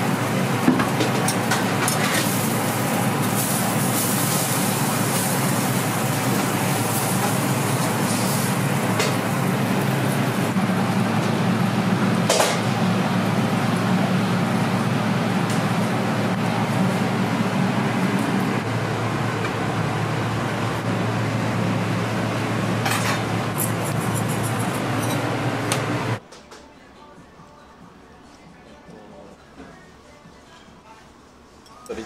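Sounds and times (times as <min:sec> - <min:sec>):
kitchen grill and extraction roar: 0:00.0 - 0:32.0.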